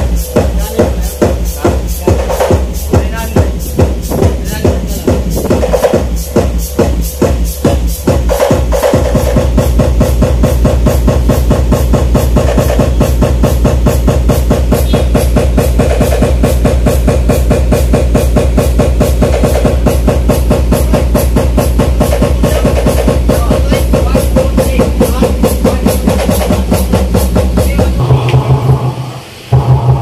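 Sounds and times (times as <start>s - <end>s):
dance music over a sound system: 0.0s - 30.0s.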